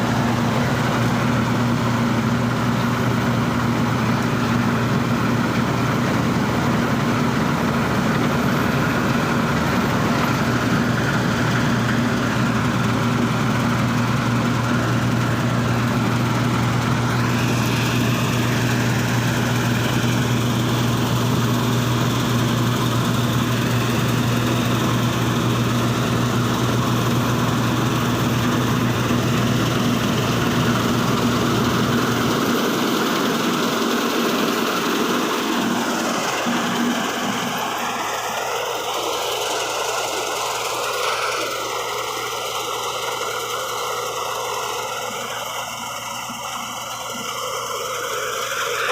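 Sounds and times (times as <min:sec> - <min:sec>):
combine harvester engine humming: 0:00.0 - 0:48.9.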